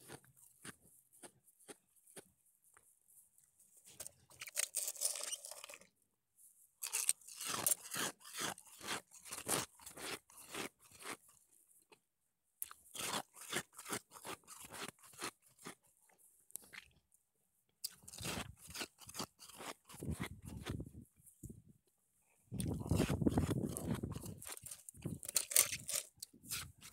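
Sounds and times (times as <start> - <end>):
chewing crunchy ice: 0.0 - 2.4, 3.9 - 5.9, 6.8 - 17.1, 17.8 - 20.9, 22.5 - 26.9.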